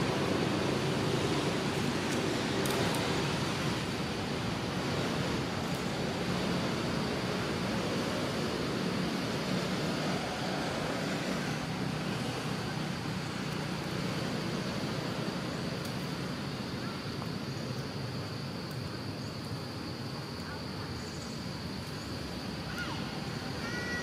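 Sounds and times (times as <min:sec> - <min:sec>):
high insect drone: 0:00.0 - 0:24.0
outdoor background noise: 0:00.0 - 0:24.0.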